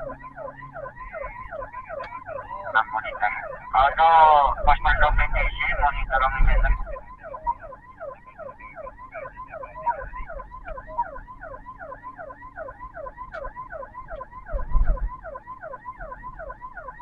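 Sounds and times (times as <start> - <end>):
ambulance siren: 0.0 - 17.0.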